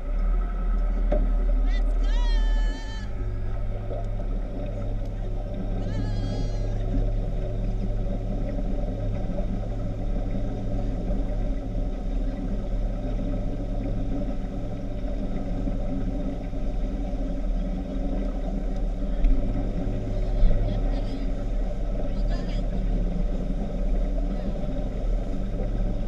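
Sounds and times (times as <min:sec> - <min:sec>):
speedboat engine humming: 0:00.0 - 0:26.0.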